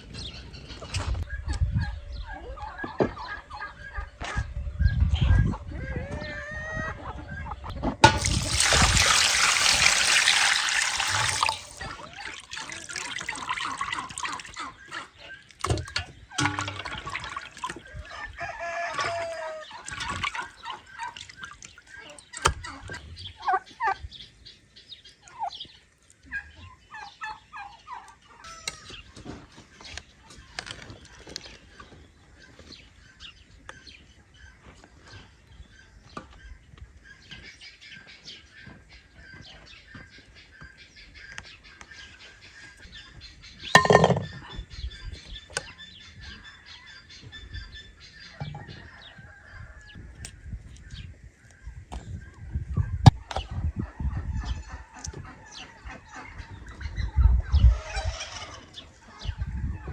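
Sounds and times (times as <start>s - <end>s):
chickens clucking: 0.0s - 24.4s, 25.1s - 44.7s, 45.6s - 59.9s.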